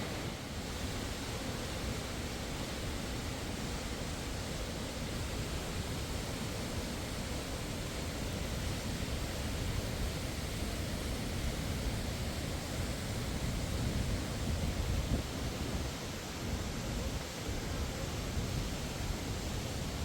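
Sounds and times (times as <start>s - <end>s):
waterfall and river rushing: 0.0s - 20.0s.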